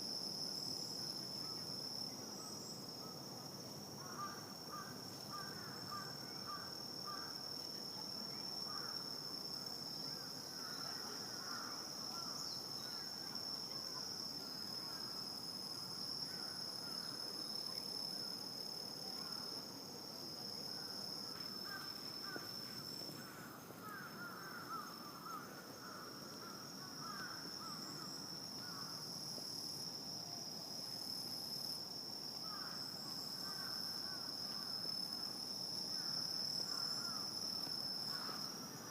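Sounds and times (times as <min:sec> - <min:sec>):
high-pitched insect trill: 0:04.0 - 0:38.9.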